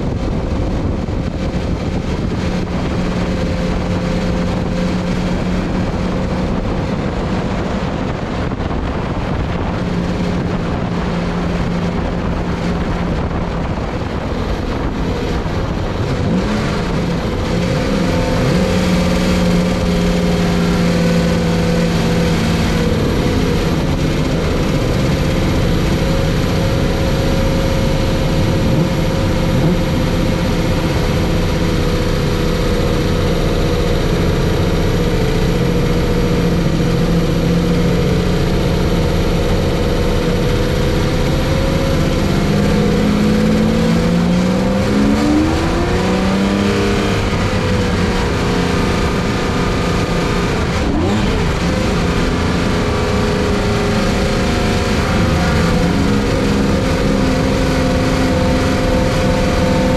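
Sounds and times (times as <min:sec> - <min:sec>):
racing car engine at speed: 0:00.0 - 0:59.9.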